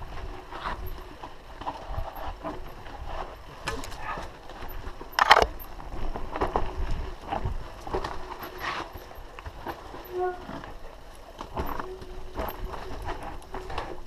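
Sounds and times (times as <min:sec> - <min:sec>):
bike rattling over rocks: 0:00.0 - 0:14.0
wind and tyre rumble: 0:00.0 - 0:14.0.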